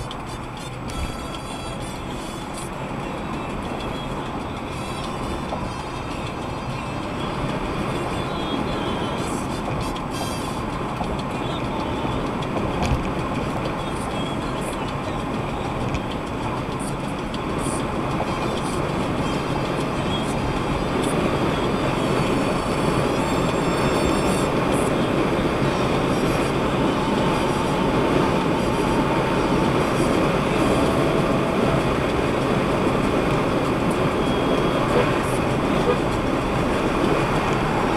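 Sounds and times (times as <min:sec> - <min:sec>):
engine drone: 0:00.0 - 0:37.9
road and tyre noise: 0:00.0 - 0:37.9.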